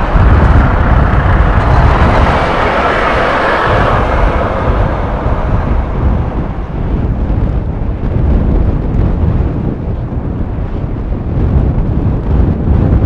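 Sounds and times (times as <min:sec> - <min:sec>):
strong wind gusting on microphone: 0:00.0 - 0:13.0.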